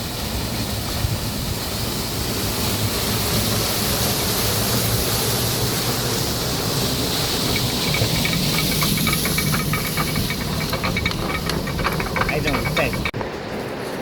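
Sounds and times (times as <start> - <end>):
rushing water: 0.0 - 13.2.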